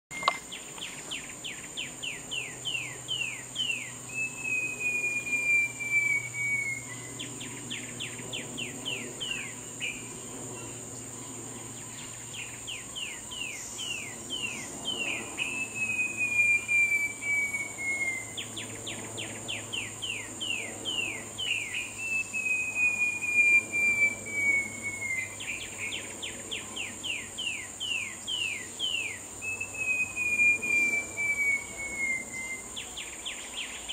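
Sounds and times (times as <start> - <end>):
bird singing: 0.1 - 33.9
high insect drone: 0.1 - 33.9.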